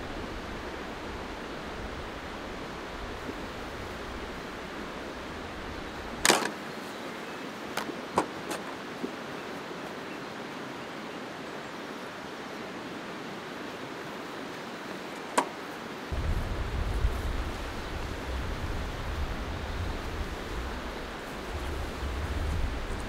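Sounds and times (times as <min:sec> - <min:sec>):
river rushing: 0:00.0 - 0:23.0.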